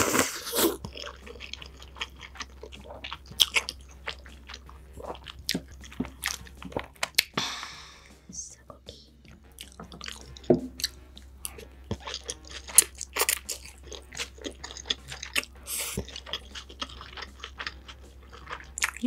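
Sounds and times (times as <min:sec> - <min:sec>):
person chewing food: 0:00.0 - 0:08.2, 0:09.2 - 0:19.0.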